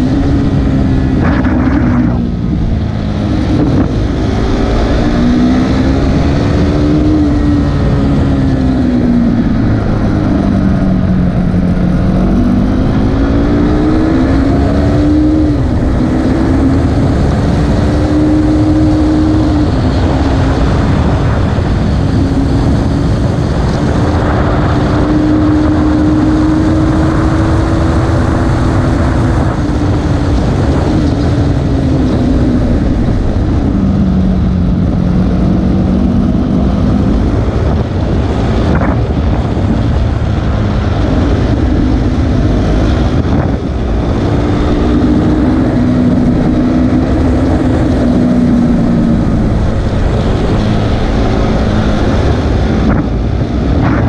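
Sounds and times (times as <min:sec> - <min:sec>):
motorcycle engine running hard: 0:00.0 - 0:54.0
wind rush over microphone: 0:00.0 - 0:54.0.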